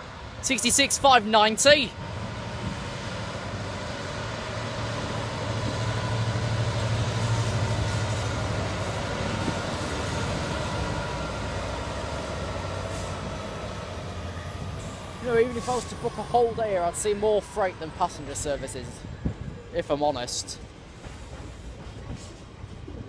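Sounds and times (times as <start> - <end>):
diesel locomotive engine drone: 0.0 - 23.0
train rumble: 0.0 - 23.0.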